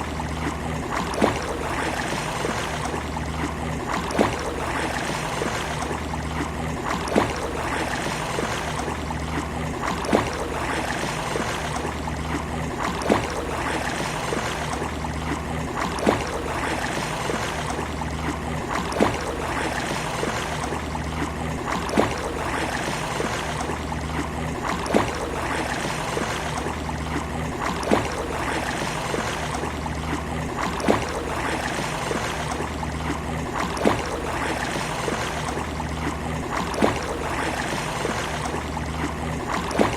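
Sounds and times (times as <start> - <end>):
sea water washing on a beach: 0.0 - 39.9.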